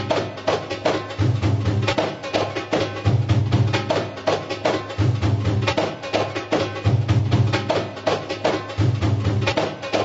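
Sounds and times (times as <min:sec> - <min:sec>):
percussive beat: 0:00.0 - 0:10.0.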